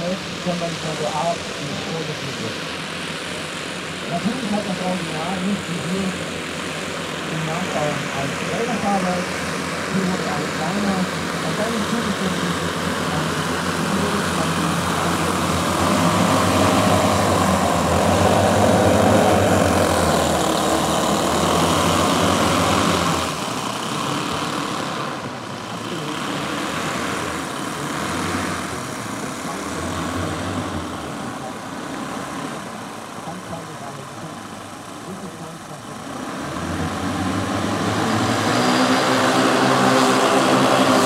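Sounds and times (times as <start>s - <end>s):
model aircraft engines droning: 0.0s - 41.0s.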